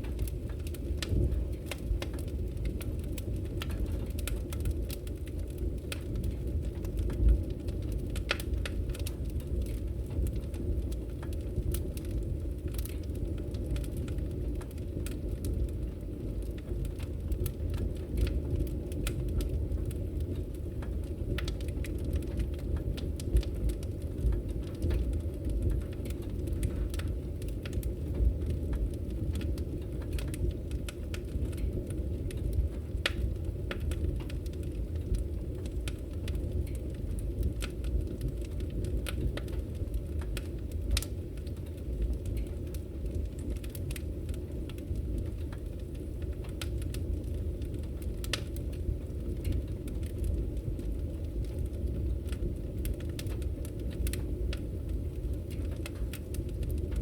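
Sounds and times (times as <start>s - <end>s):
fire crackling and popping: 0.0s - 57.0s
fire rumbling: 0.0s - 57.0s.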